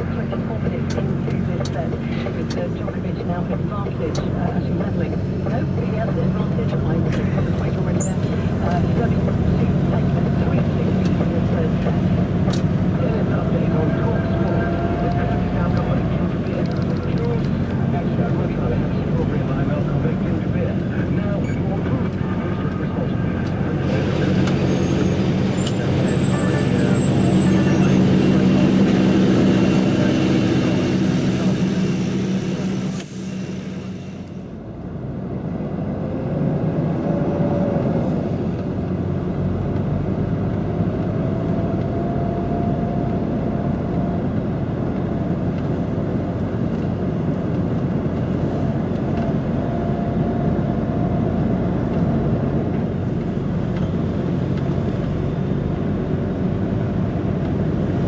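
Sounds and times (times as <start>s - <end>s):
truck diesel engine and road noise: 0.0s - 58.0s.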